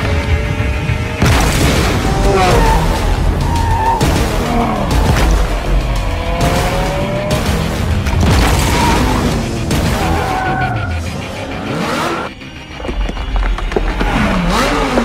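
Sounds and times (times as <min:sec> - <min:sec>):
car engine revving: 0:00.0 - 0:12.9, 0:13.8 - 0:15.0
music with pounding beat: 0:00.0 - 0:15.0
tyres skidding: 0:00.0 - 0:15.0.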